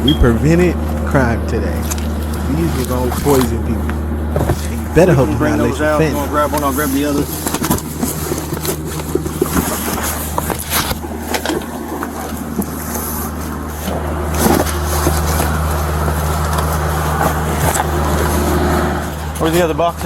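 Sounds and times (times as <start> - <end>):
traffic noise: 0.0 - 20.0
vehicle engine running: 0.0 - 20.0.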